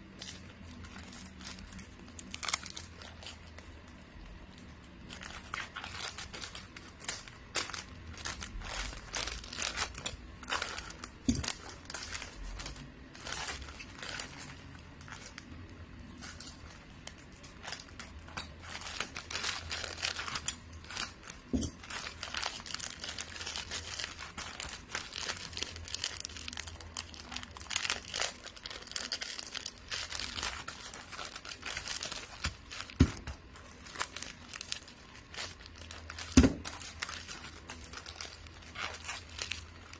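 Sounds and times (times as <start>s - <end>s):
wrapping paper crinkling: 0.0s - 39.9s.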